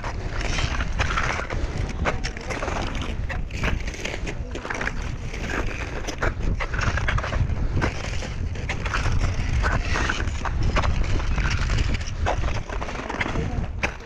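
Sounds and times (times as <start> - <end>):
footsteps crunching on ice and snow: 0.0 - 14.0.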